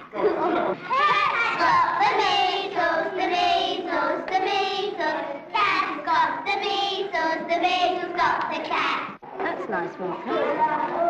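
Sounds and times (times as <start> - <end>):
children singing: 0.0 - 9.2.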